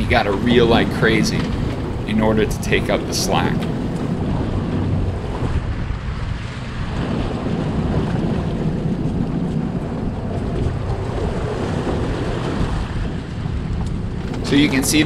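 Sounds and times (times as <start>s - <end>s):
water rushing along boat hull: 0.0s - 15.0s
wind noise on microphone: 0.0s - 15.0s.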